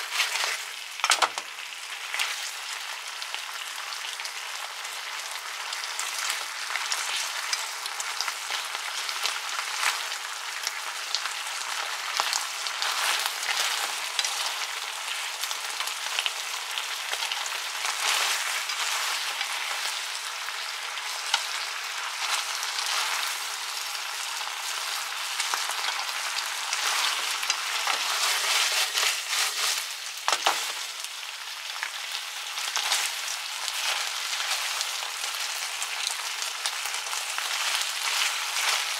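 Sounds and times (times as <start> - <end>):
chicken wings sizzling in frying pan: 0.0 - 38.9
glaze boiling: 5.3 - 38.9.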